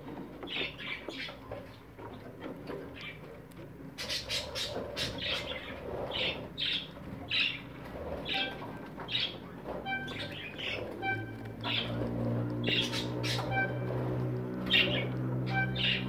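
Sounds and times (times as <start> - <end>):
budgerigars chirping raspily: 0.4 - 1.4, 4.0 - 16.0.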